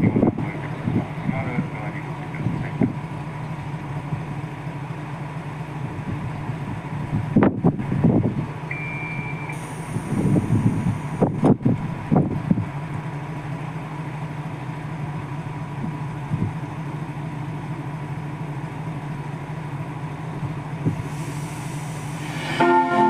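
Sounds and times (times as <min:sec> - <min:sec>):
diesel train engine idling: 0:00.0 - 0:23.0.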